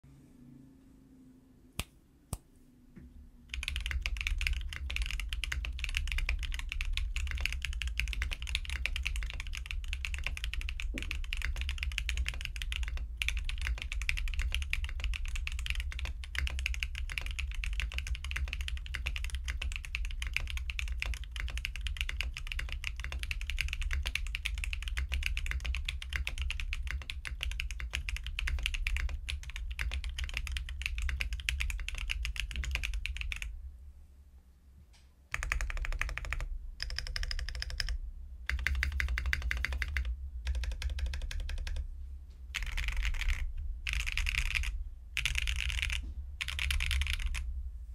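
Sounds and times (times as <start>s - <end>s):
mechanical keyboard typing: 3.5s - 33.5s, 35.3s - 41.8s, 42.6s - 47.4s.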